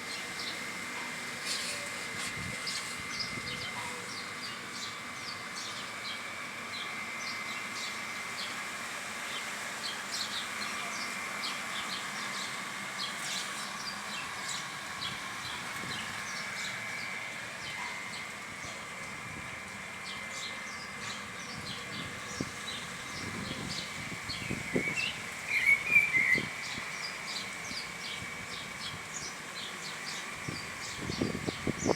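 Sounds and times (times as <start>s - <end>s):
small birds chirping: 0.1s - 31.9s.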